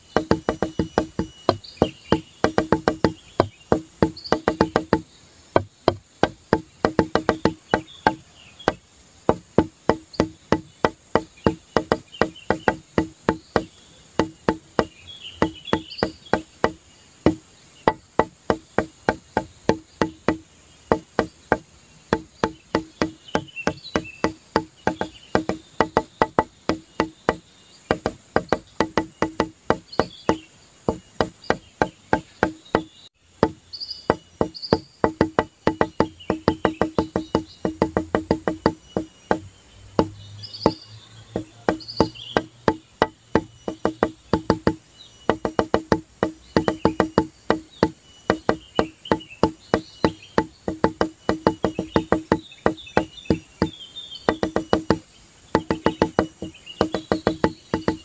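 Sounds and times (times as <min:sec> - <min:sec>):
rapid wooden-sounding clicks: 0:00.0 - 0:58.0.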